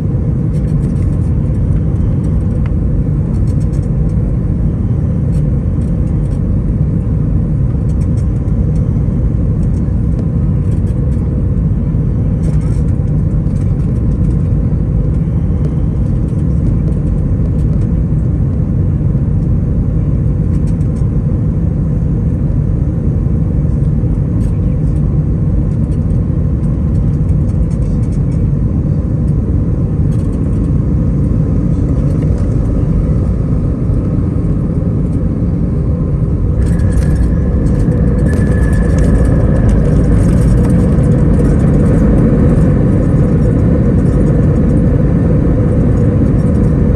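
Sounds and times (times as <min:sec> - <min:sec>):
high engine whine: 0:00.0 - 0:46.9
jet engine rumble in cabin: 0:00.0 - 0:46.9.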